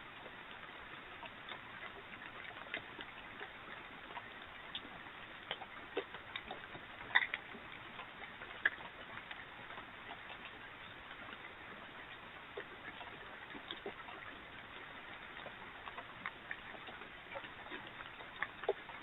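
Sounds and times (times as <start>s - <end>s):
faint clicks and ticks: 0.0s - 19.0s.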